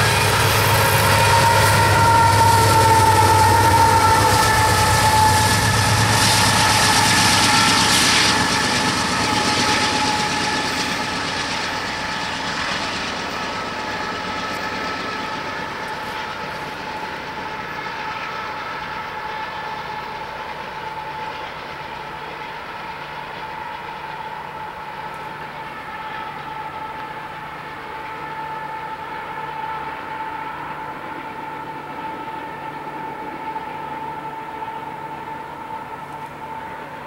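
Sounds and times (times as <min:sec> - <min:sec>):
freight train rumbling on rails: 0:00.0 - 0:37.0
locomotive air horn: 0:00.0 - 0:37.0.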